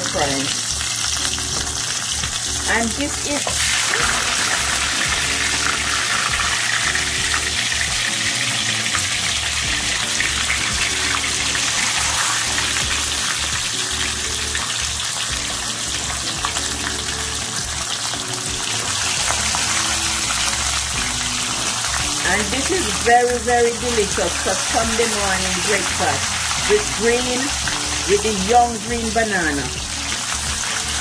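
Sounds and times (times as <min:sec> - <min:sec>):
background music: 0:00.0 - 0:31.0
meat sizzling in hot oil: 0:00.0 - 0:31.0.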